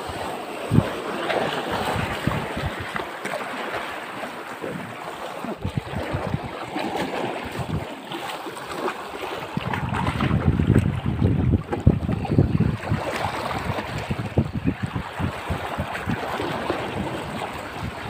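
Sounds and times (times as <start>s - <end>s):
wind buffeting microphone: 0.0s - 3.1s, 4.7s - 8.0s, 8.7s - 18.0s
waves splashing over rocks: 0.0s - 18.0s.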